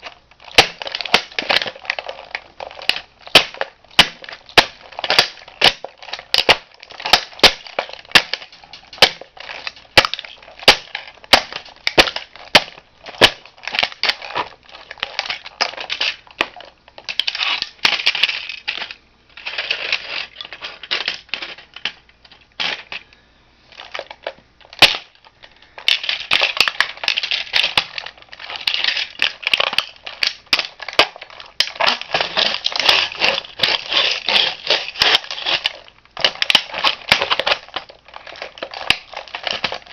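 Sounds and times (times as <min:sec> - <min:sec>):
toy car cracking under a shoe: 0:00.0 - 0:23.0, 0:23.8 - 0:39.9.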